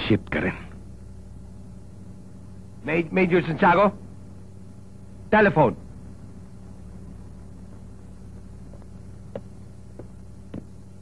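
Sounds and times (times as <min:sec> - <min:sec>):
soundtrack hum and hiss: 0:00.0 - 0:11.0.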